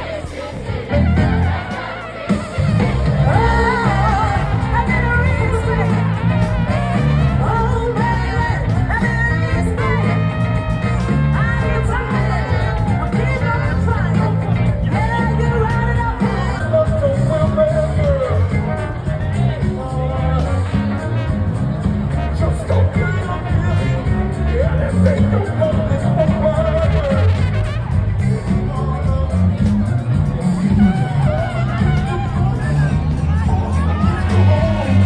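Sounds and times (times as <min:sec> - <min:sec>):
bass and drum beat: 0:00.0 - 0:35.0
person singing: 0:00.0 - 0:35.0.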